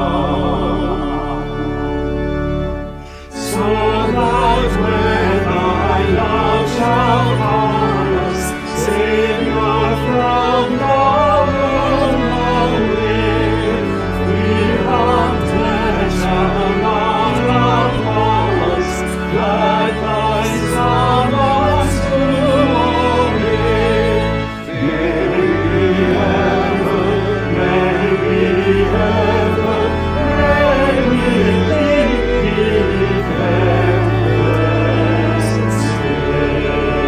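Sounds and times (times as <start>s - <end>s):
group singing a hymn in harmony: 0.0s - 37.0s.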